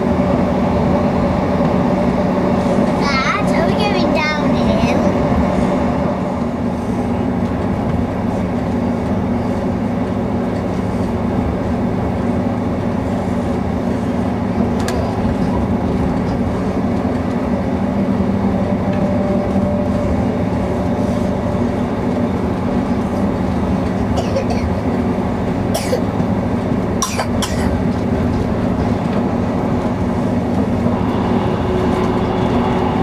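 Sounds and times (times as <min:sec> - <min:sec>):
train rumble and drone: 0:00.0 - 0:33.0.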